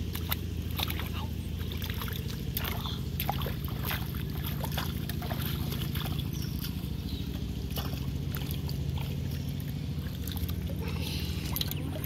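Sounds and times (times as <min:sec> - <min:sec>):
muddy water splashing: 0:00.0 - 0:12.0
steady low rumble: 0:00.0 - 0:12.0.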